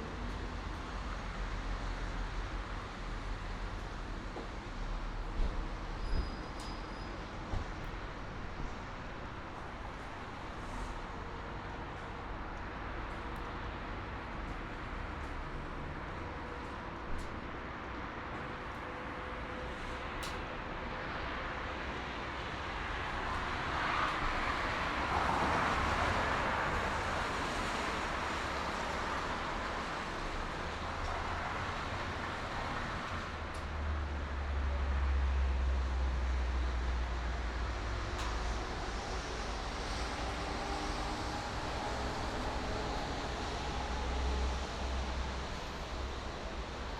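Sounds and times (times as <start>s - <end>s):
highway traffic rushing: 0.0s - 46.9s.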